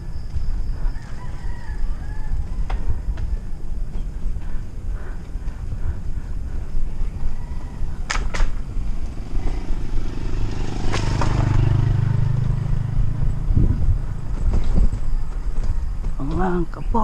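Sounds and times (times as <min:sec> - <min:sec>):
vehicle engine humming past: 0:00.0 - 0:16.2
wind buffeting microphone: 0:00.0 - 0:17.0.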